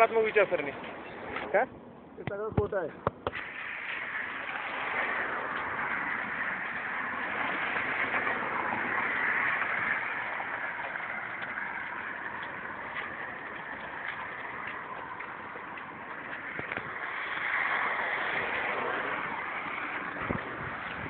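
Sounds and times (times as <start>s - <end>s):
car tyre and wind noise: 0.0s - 21.0s.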